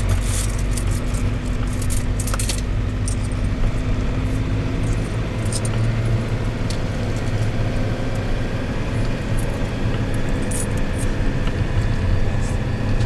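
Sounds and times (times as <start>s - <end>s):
minibus engine and road drone: 0.0s - 13.0s.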